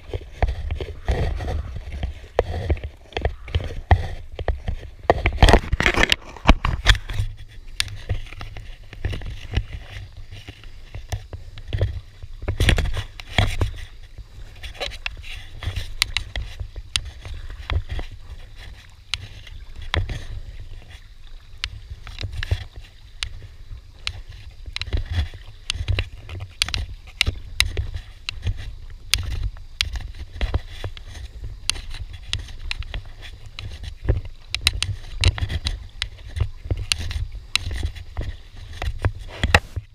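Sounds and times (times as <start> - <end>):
paddle splashing in water: 0.0 - 39.9
water sloshing against hull: 0.0 - 39.9.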